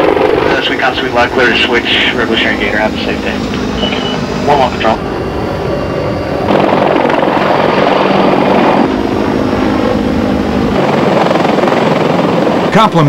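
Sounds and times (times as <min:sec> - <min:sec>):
heavy helicopter rotor and engine: 0:00.0 - 0:13.0.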